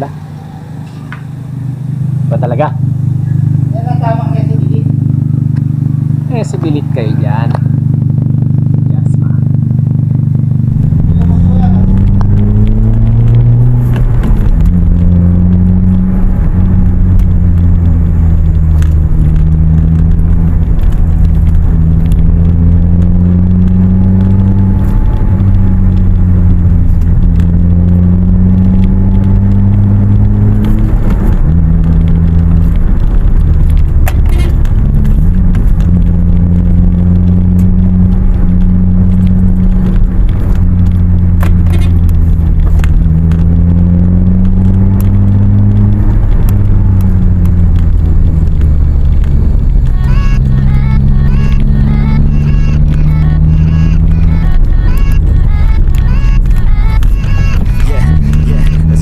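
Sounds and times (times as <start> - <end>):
car exhaust droning: 0.0 - 59.0.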